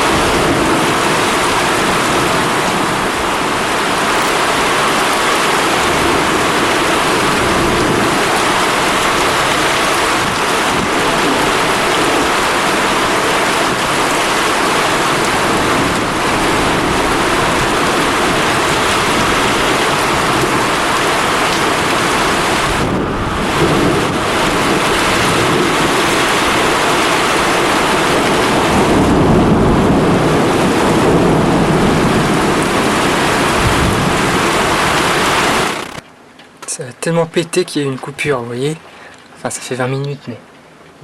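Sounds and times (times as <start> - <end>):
low thunder rumble: 0.0 - 36.0
hard rain hissing: 0.0 - 41.0.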